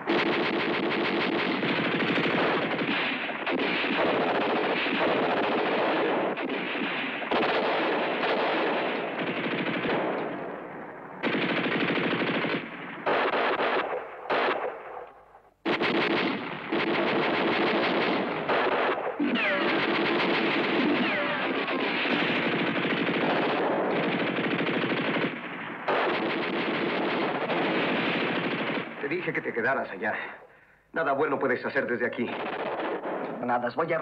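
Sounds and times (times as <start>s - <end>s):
rapid machine-gun fire: 0.0s - 10.6s, 11.2s - 15.0s, 15.6s - 29.4s, 32.3s - 33.2s.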